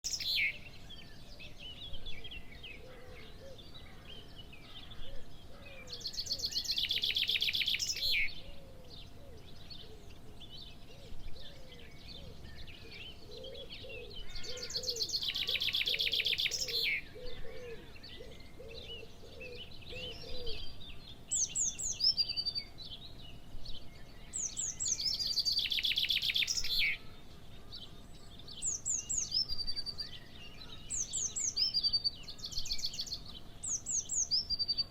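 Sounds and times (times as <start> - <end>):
birds twittering: 0.0 - 34.9.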